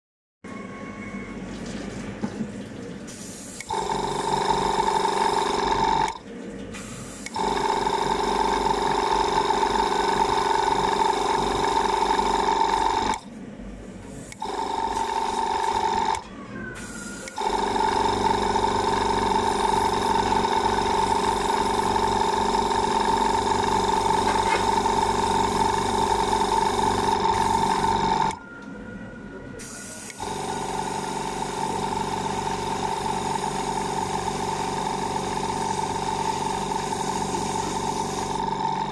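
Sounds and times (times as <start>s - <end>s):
spray gun humming: 3.1s - 6.2s, 6.8s - 13.2s, 14.1s - 16.2s, 16.8s - 28.4s, 29.6s - 38.9s.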